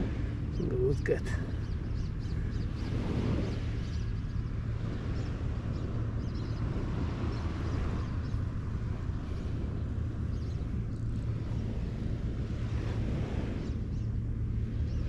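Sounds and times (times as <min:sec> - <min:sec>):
surf on beach: 0:00.0 - 0:15.0
wind on microphone: 0:00.0 - 0:15.0.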